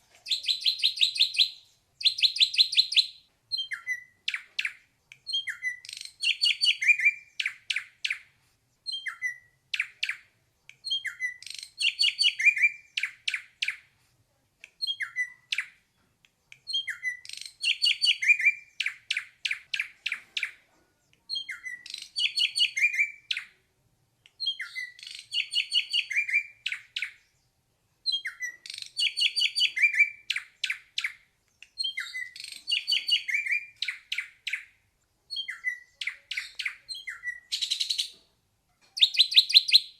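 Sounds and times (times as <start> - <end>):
bird singing whistles and clicks: 0.2 - 13.9, 14.6 - 23.6, 24.2 - 27.3, 28.0 - 38.2, 38.9 - 39.9.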